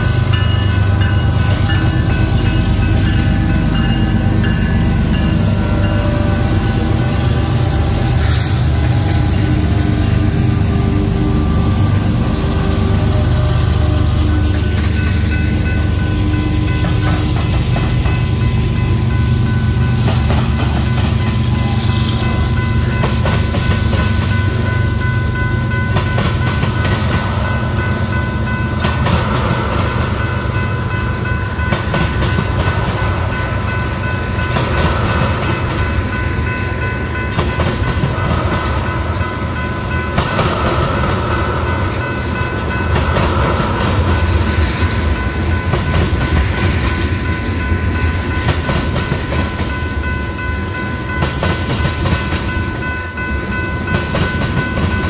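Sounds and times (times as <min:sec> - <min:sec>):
freight train rumbling: 0:00.0 - 0:55.0
wheels clacking over rail joints: 0:00.0 - 0:55.0.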